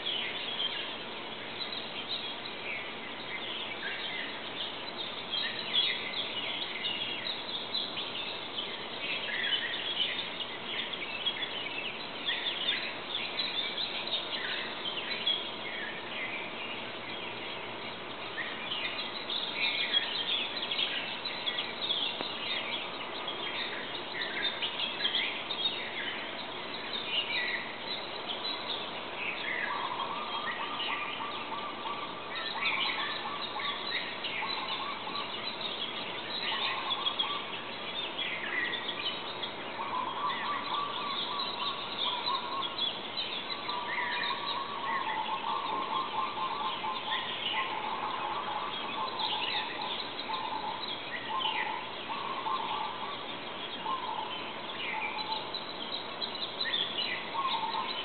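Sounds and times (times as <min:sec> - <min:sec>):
background hiss: 0:00.0 - 0:58.0
low steady bird call: 0:00.0 - 0:58.0
songbirds chirping and trilling: 0:00.0 - 0:58.0.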